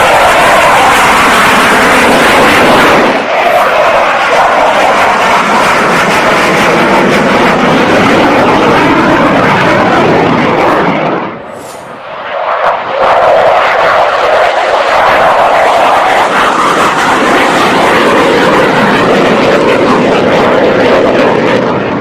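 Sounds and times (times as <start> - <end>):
fighter jet passing by: 0.0 - 22.0.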